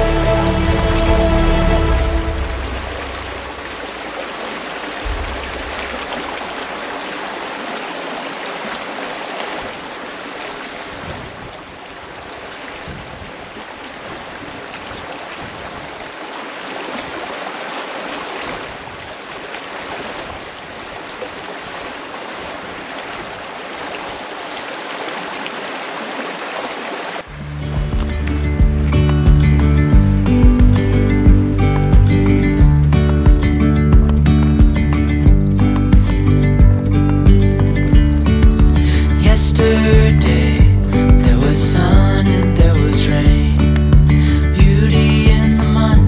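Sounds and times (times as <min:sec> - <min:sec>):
creek rippling over rocks: 0:01.6 - 0:46.0.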